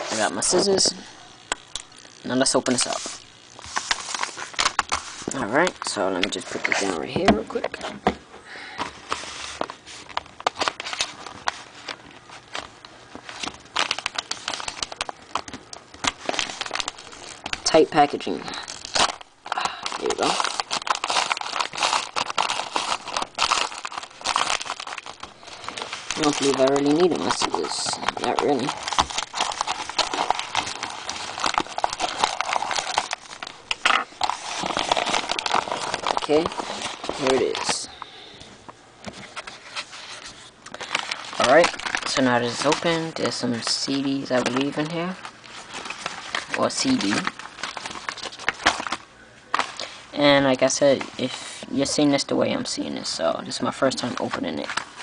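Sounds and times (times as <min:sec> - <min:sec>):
paper crackling and crinkling: 0:01.5 - 0:07.9, 0:08.8 - 0:38.1, 0:39.0 - 0:51.3, 0:53.8 - 0:55.0.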